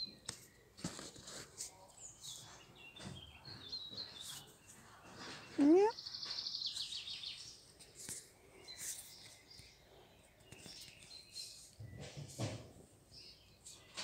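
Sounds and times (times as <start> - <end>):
small bird chirping: 0.0 - 12.3.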